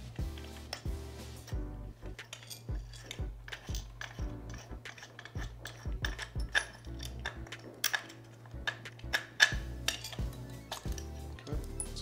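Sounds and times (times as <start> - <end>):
background music with steady beat: 0.0 - 12.0
metal tools clinking against bolt: 0.1 - 12.0.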